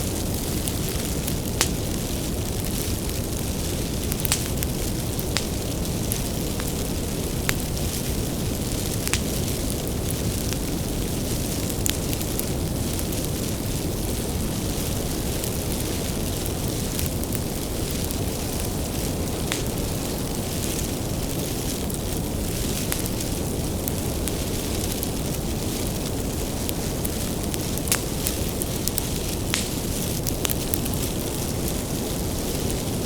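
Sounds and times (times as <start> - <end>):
bonfire flames rushing: 0.0 - 33.0
firewood crackling and popping: 0.0 - 33.0.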